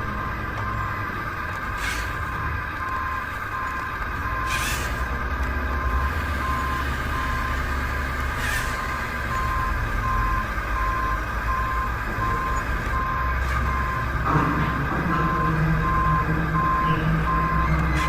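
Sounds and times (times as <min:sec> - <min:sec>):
reversing alarm beeping: 0:00.0 - 0:01.1, 0:02.2 - 0:04.6, 0:05.7 - 0:08.0, 0:08.7 - 0:18.0
low engine rumble: 0:00.0 - 0:18.0.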